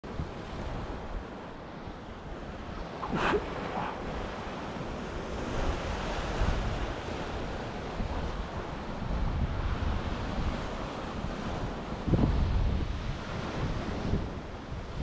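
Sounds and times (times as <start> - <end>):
wind buffeting microphone: 2.0 - 10.6, 11.3 - 15.0.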